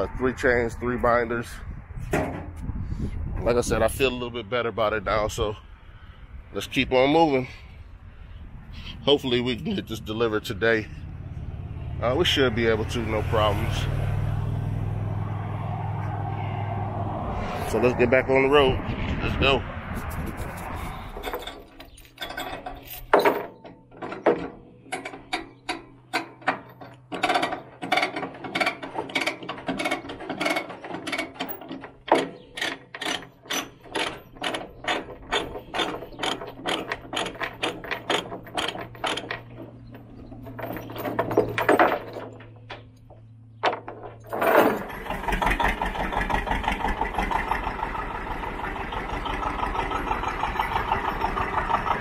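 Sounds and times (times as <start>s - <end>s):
tractor engine running: 8.6s - 52.0s.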